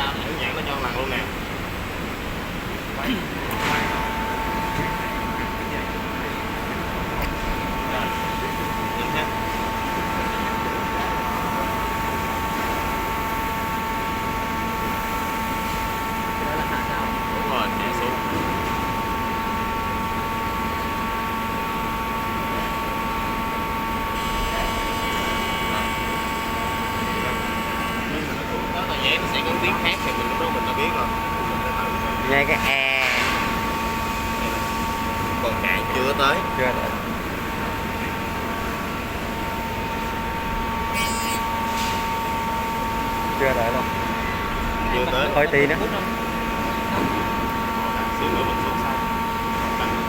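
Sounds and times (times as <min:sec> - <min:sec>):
cutting machine whine and hum: 0:00.0 - 0:50.0.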